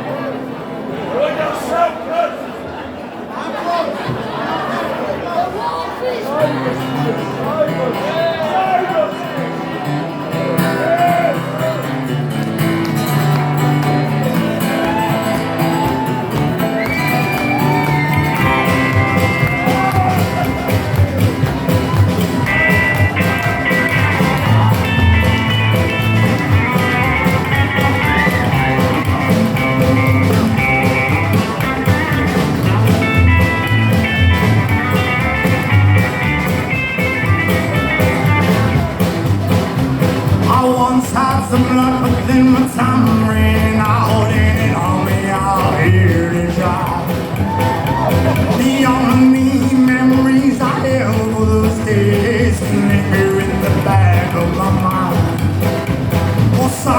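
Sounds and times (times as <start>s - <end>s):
rockabilly band playing: 6.4s - 56.9s
electric guitar lead lines: 9.4s - 56.9s.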